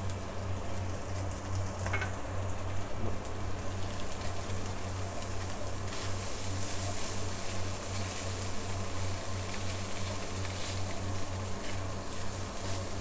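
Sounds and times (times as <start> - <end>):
food sizzling in hot oil: 0.1 - 13.0.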